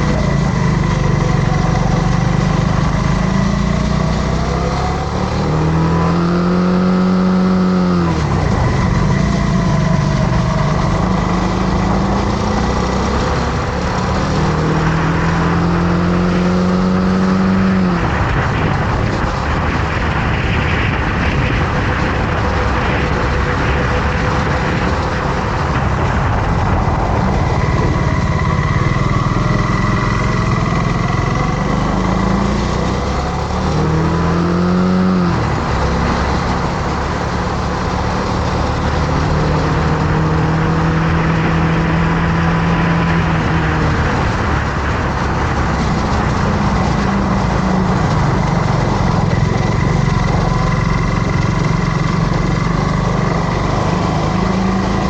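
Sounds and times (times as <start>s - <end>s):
motorcycle engine running: 0.0s - 55.0s
rushing noise: 0.0s - 55.0s.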